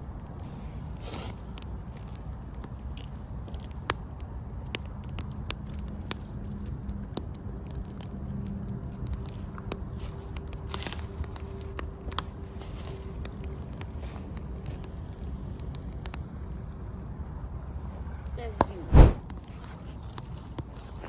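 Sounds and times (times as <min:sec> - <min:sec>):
campfire crackling: 0:00.0 - 0:21.0
fire low rumble: 0:00.0 - 0:21.0
burning sticks popping: 0:00.2 - 0:21.0.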